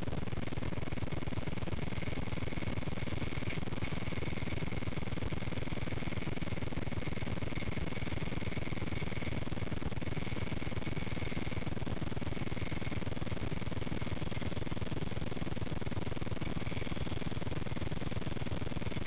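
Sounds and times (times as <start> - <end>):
small electric motor whine: 0.0 - 19.0.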